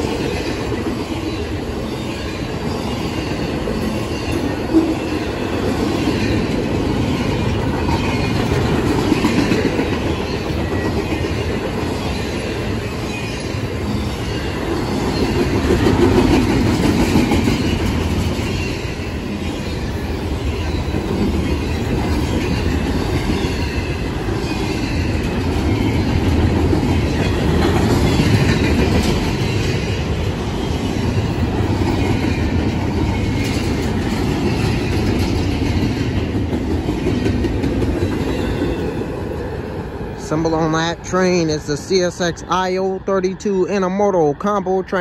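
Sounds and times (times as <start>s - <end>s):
train wheels running on rails: 0.0s - 45.0s.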